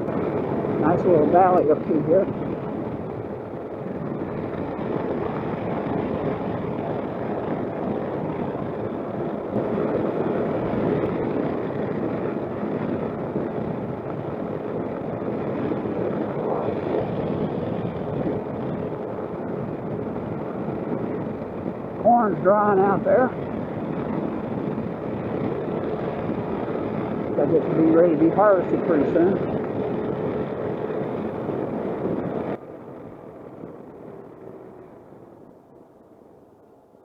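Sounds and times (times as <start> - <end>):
scooter engine running: 0.0 - 35.4
road noise: 0.0 - 37.0
wind rush over microphone: 0.0 - 37.0.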